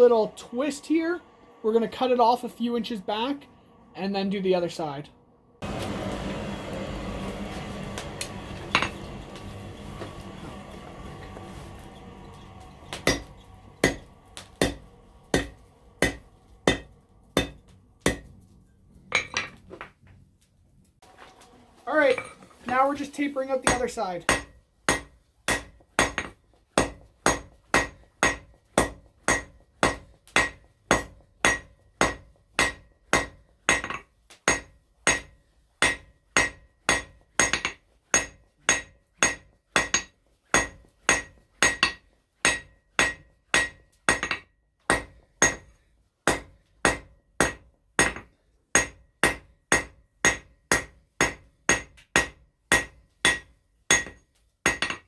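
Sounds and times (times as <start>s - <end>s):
hammer striking on anvil: 5.6s - 18.4s, 23.6s - 55.0s.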